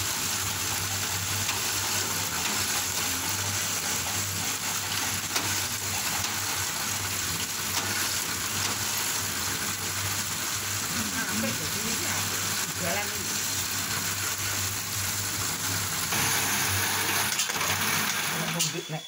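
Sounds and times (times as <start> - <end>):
shaving machine hiss and hum: 0.0 - 19.0.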